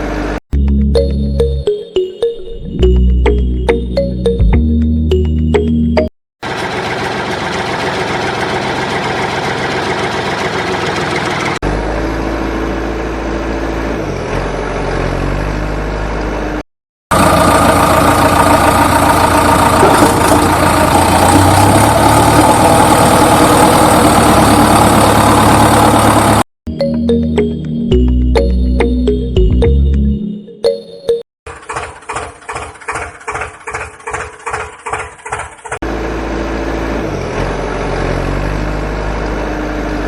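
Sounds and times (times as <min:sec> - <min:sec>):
engine running: 0:06.4 - 0:30.1, 0:31.5 - 0:40.0.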